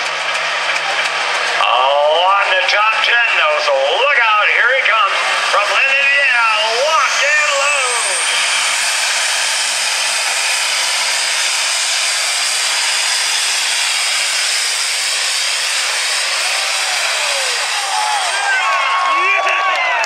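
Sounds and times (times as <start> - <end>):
tractor engine at full throttle: 0.0 - 19.9
high turbo whine: 0.0 - 20.0.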